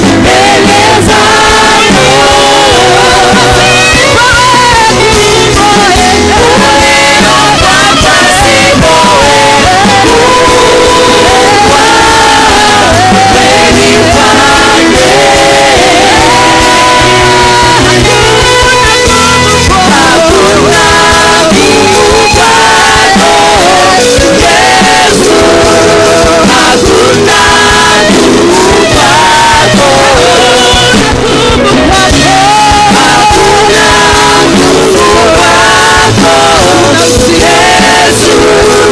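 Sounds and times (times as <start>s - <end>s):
full band playing: 0.0s - 38.9s
voices singing gospel: 0.0s - 38.9s.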